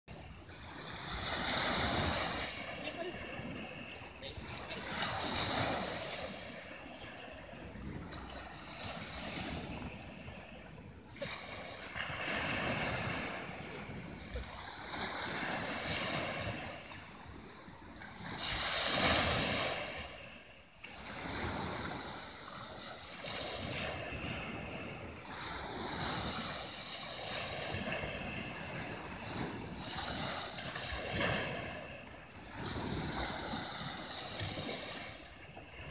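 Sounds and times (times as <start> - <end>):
sea waves breaking on shore: 0.1 - 35.9.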